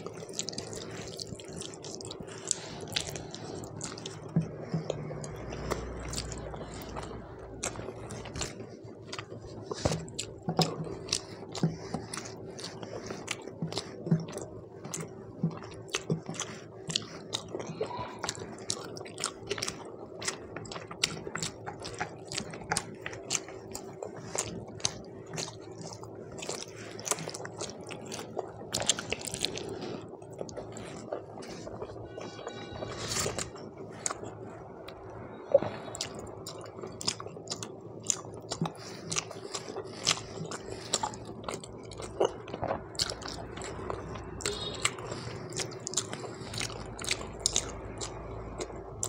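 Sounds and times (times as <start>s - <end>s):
close chewing with wet mouth clicks: 0.0s - 32.4s, 33.1s - 49.0s
faint steady hum: 0.0s - 49.0s.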